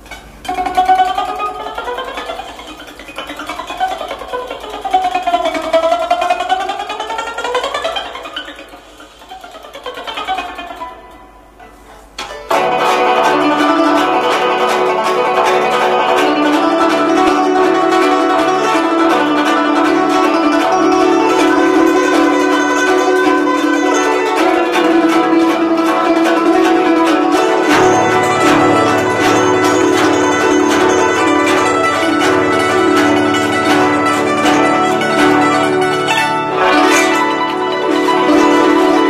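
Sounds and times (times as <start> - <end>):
fast zither plucking: 0.0 - 39.0
zither glissandos: 0.0 - 39.0.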